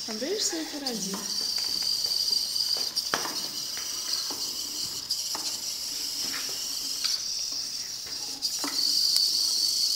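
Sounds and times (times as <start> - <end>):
robot motors whining: 0.7 - 9.9.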